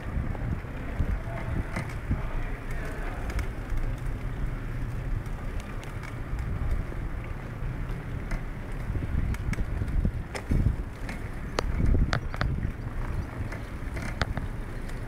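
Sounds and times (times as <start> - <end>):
bicycle rolling over paving: 0.0 - 15.0
wind rumbling on microphone: 0.0 - 15.0
light clicks from bike: 0.3 - 15.0.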